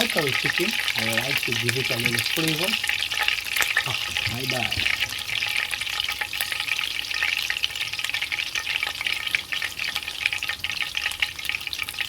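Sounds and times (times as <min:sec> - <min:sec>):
hot oil sizzling in a pot: 0:00.0 - 0:12.0.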